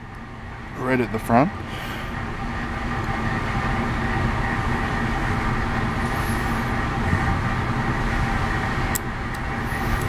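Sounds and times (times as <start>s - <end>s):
mechanical hum with tones: 0.0s - 10.0s.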